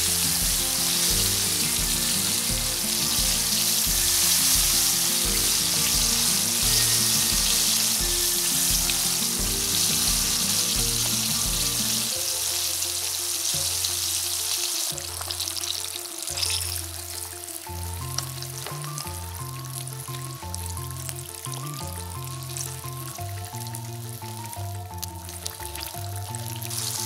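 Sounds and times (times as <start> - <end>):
fish frying in hot oil: 0.0 - 27.0
soft background music: 0.0 - 27.0.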